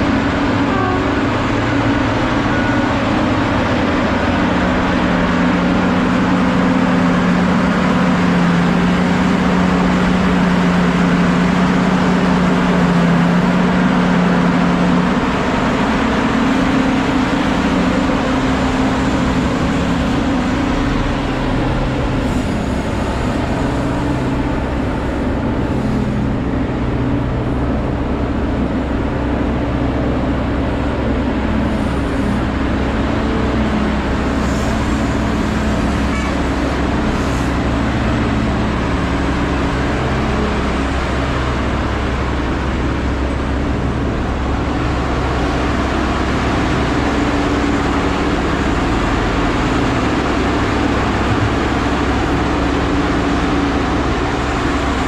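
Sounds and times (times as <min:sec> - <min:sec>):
excavator engines droning: 0:00.0 - 0:55.0.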